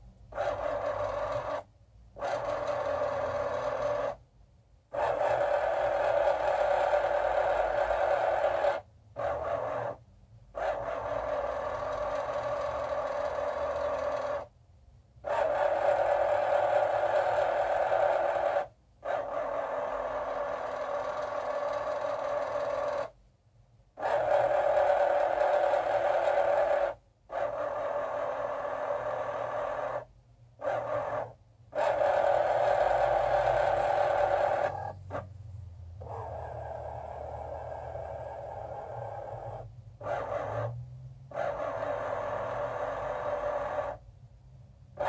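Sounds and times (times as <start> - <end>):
motors whirring: 0.3 - 4.2, 5.0 - 14.5, 15.2 - 23.2, 24.0 - 35.3, 36.0 - 44.0.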